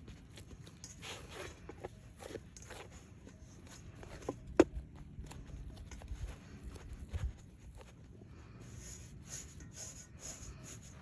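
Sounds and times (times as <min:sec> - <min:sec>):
dough squishing: 0:00.0 - 0:11.0.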